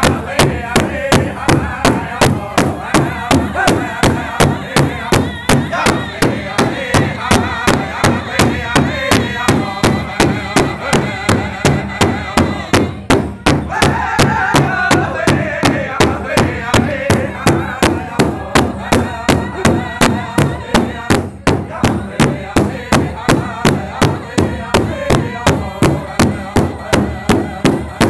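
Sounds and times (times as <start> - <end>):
drum beating steadily: 0.0 - 28.0
group singing in high voices: 0.0 - 28.0.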